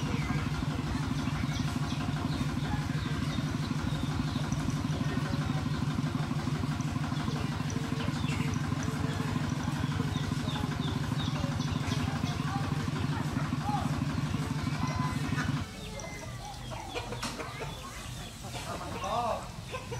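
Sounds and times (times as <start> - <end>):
faint high chirps: 0.0 - 18.4
engine idling: 0.0 - 19.9.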